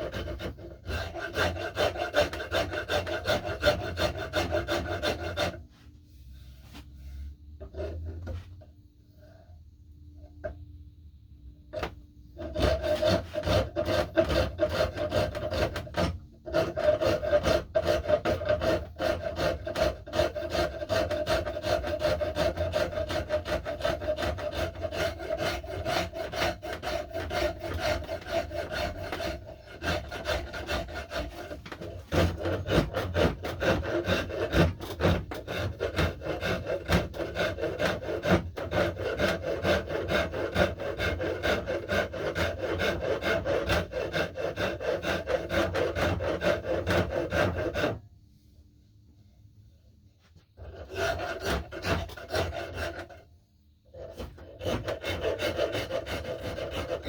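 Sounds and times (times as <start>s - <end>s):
rasping strokes on wood: 0.0s - 5.6s, 7.6s - 8.4s, 11.8s - 48.0s, 50.6s - 53.3s, 53.9s - 57.0s.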